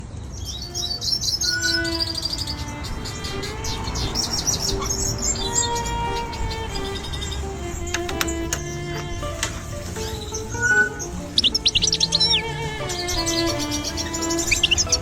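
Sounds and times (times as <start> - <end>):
small birds chirping and twittering: 0.0 - 15.0.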